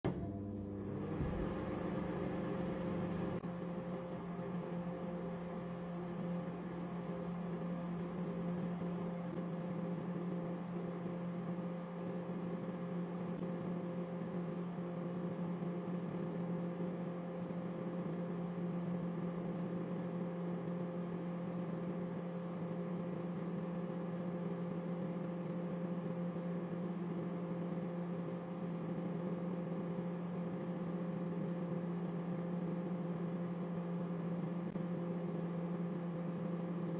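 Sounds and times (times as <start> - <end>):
microwave oven humming: 0.0 - 36.9.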